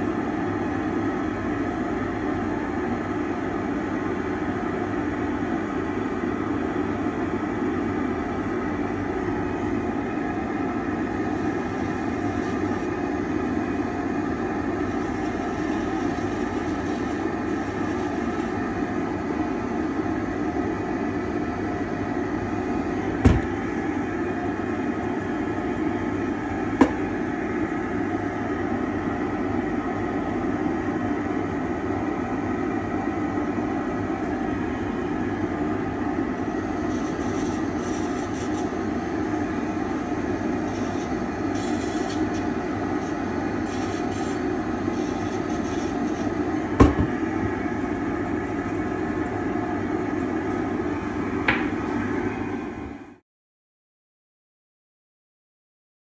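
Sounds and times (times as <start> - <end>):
extraction box whirring hum: 0.0 - 53.2.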